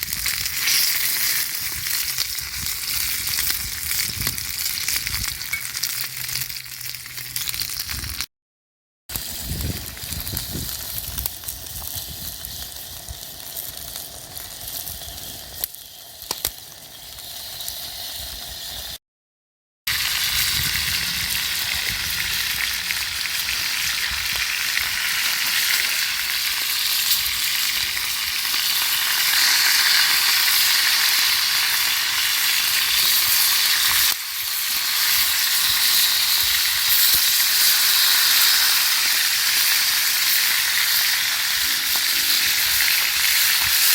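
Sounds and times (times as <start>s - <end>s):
food sizzling over campfire: 0.0s - 8.3s, 9.1s - 19.0s, 19.9s - 43.9s.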